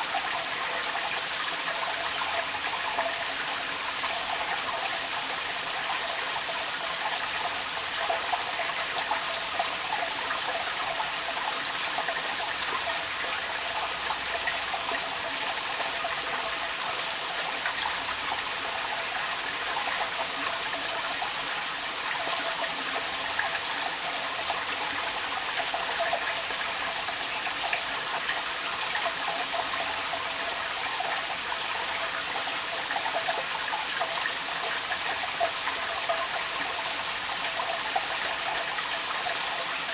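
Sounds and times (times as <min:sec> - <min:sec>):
water gushing from downpipe: 0:00.0 - 0:39.9.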